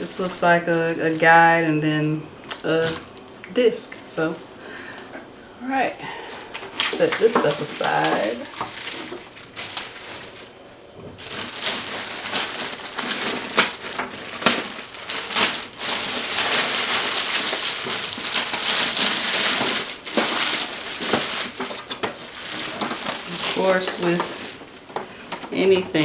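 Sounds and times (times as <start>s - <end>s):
sharp plastic crackles: 0.0s - 5.5s, 6.1s - 26.0s
plastic packaging crinkling: 0.0s - 26.0s.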